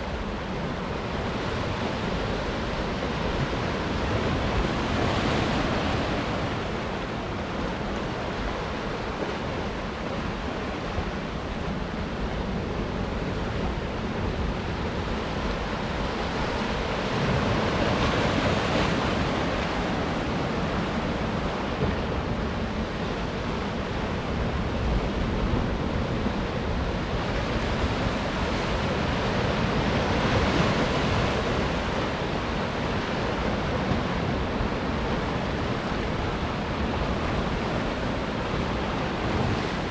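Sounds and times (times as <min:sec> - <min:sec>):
ocean waves breaking on rocks: 0:00.2 - 0:39.9.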